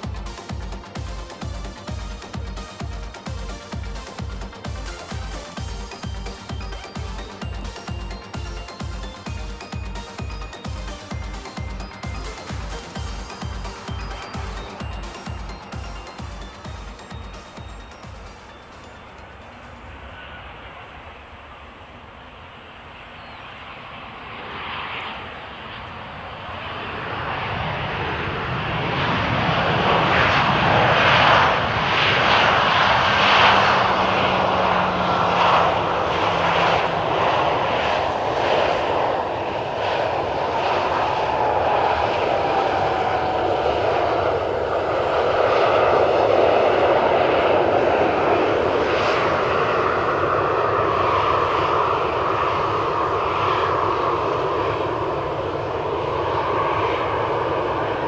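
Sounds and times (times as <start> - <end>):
large engine roaring: 0.0 - 20.3, 26.8 - 58.0.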